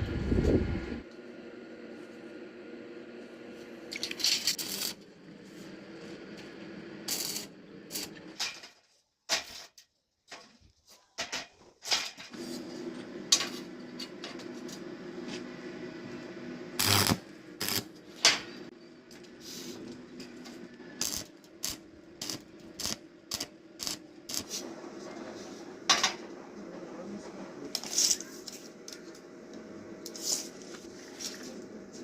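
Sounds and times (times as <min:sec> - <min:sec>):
steady low hum: 0:00.0 - 0:08.5, 0:12.4 - 0:32.0.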